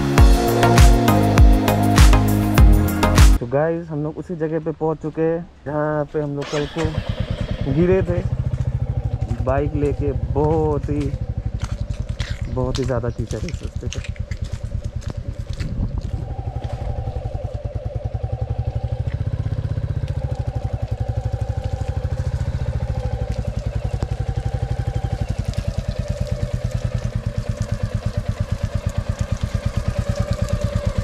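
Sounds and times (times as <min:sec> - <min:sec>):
motorcycle engine running: 0:00.0 - 0:03.4, 0:06.4 - 0:31.0.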